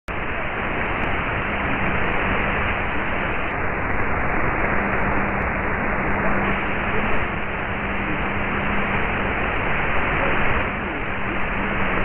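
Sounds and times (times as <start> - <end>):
faint low hum: 0.1 - 12.0
radio static hiss: 0.1 - 12.0.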